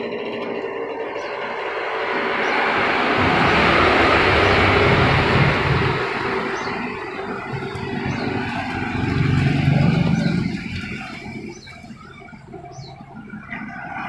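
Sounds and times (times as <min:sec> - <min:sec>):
vehicle engine rumble passing: 0:00.0 - 0:14.0.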